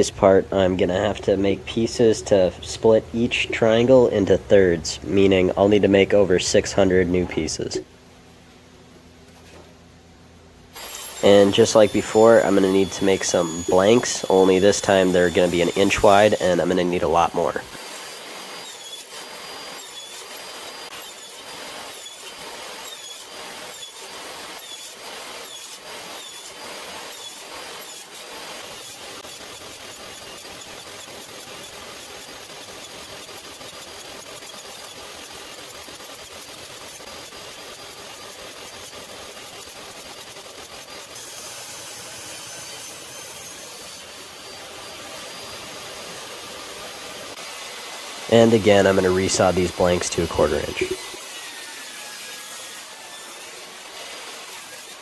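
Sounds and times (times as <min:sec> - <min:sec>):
table saw ripping wood: 0:10.7 - 0:55.0.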